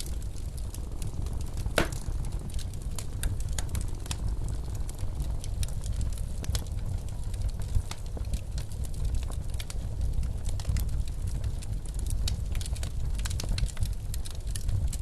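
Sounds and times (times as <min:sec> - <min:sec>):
blizzard wind rumbling: 0:00.0 - 0:15.0
wood fire crackling: 0:00.0 - 0:15.0.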